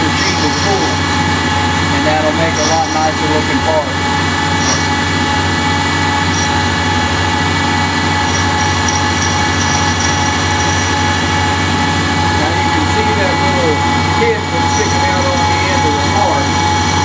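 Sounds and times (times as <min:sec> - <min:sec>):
lathe machine hum and whine: 0:00.0 - 0:17.0.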